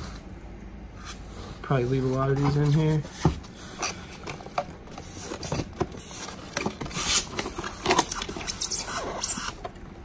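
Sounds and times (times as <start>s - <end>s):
packaging rustling and scraping: 1.0s - 9.8s.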